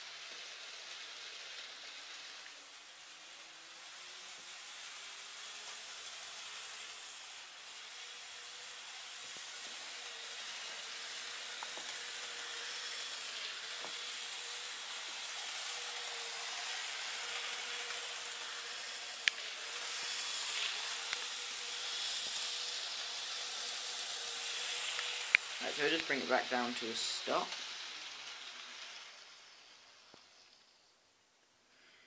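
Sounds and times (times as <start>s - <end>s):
small electric motor whining: 0.0s - 31.1s
wheels hissing on rails: 0.0s - 32.0s.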